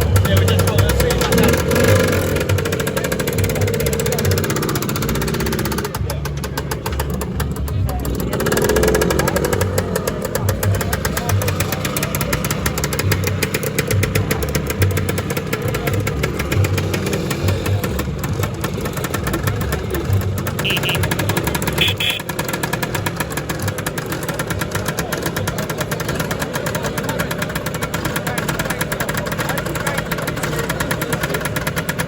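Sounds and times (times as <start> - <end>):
scooter engine idling: 0.0 - 32.0.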